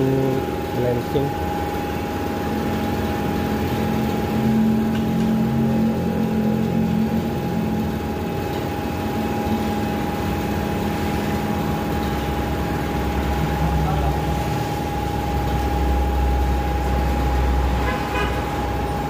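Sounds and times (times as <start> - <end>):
air compressor running: 0.0 - 19.0.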